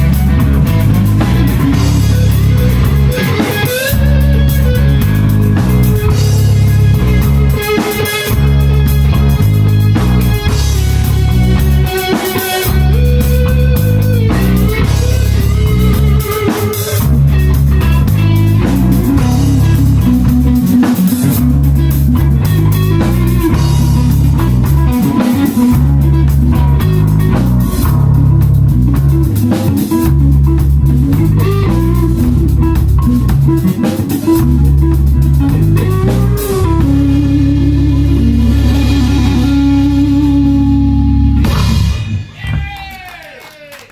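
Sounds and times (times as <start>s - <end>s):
drum kit: 0.0s - 43.1s
bass guitar: 0.0s - 43.2s
guitar: 0.0s - 43.2s.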